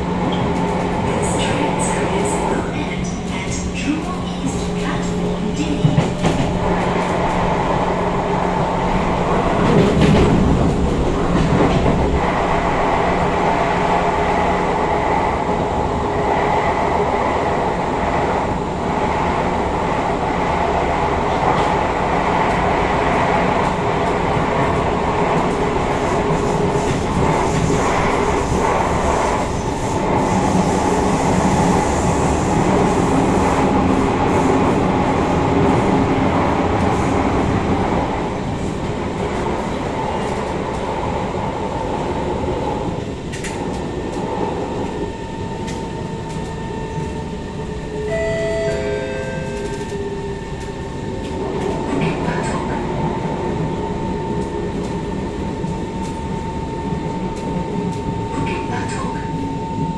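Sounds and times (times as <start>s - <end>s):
train rumbling inside carriage: 0.0s - 59.9s.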